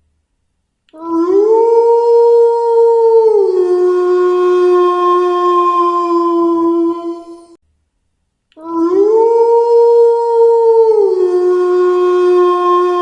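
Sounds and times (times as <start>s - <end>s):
wolf howling: 1.0s - 7.6s, 8.6s - 13.0s.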